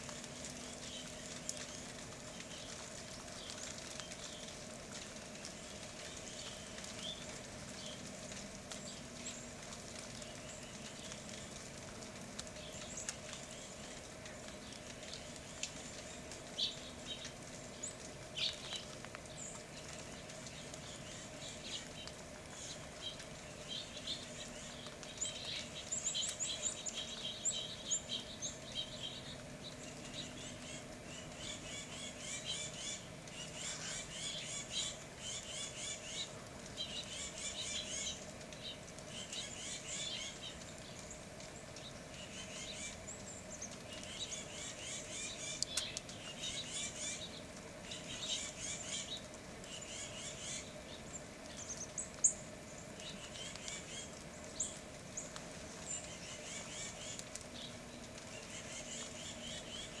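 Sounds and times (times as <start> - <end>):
faint steady hum: 0.0 - 60.0
songbirds chirping: 0.0 - 60.0.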